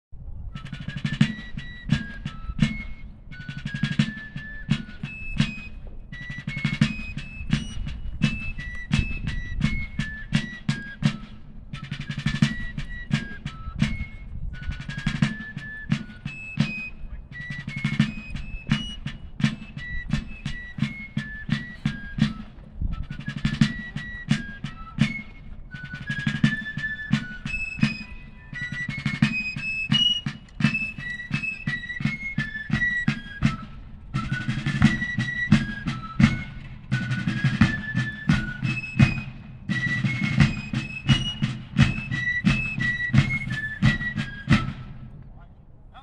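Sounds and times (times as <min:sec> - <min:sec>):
field drums beating: 0:00.4 - 0:45.2.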